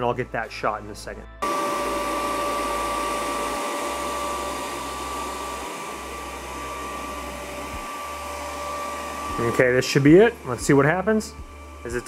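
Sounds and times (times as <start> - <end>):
robot vacuum whirring: 1.4 - 12.0.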